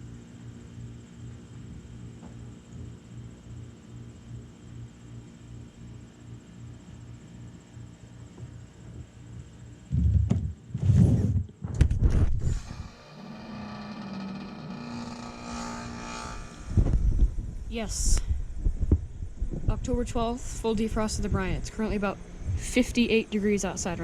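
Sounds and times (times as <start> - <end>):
heat pump humming: 0.0 - 24.0.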